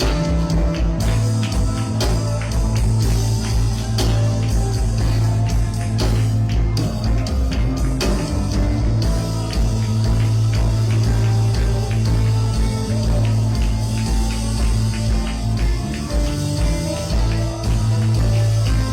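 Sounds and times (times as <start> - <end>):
bass guitar: 0.0 - 18.9
drum kit: 0.0 - 18.9
electric guitar: 0.0 - 18.9.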